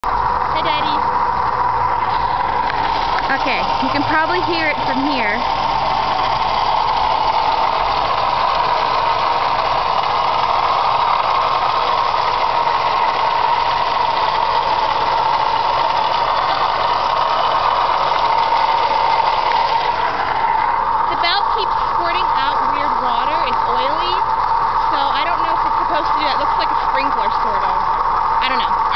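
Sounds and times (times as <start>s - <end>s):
car engine running: 0.0s - 28.9s
high-pitched whine: 0.0s - 28.9s.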